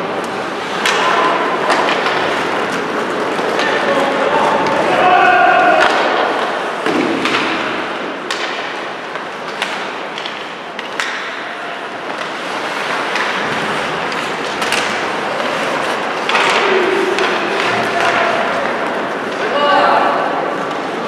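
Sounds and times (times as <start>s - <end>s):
skates scraping on ice: 0.0s - 19.5s
hockey sticks and puck clacking: 0.0s - 21.0s.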